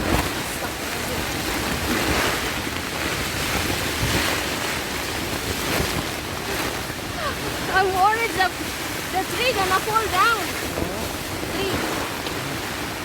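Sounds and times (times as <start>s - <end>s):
gusting wind: 0.0s - 13.0s
heavy rain on a tent: 0.0s - 13.0s.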